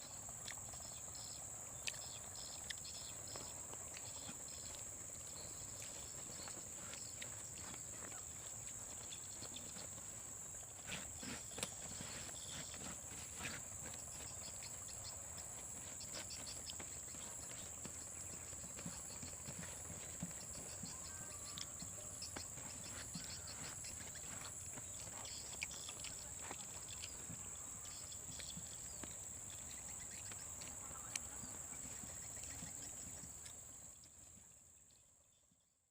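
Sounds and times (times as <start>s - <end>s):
pulsing insect call: 0.0s - 34.2s
insects droning: 0.0s - 35.4s.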